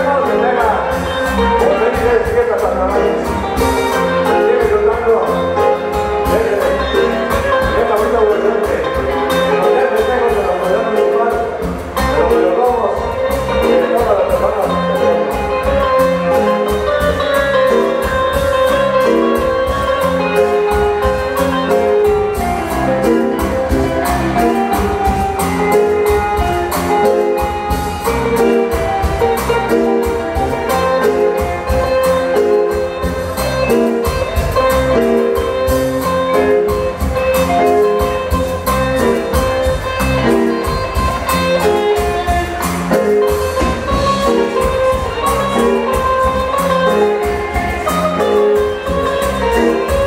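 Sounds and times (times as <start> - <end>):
tropical dance-band music: 0.0 - 50.0.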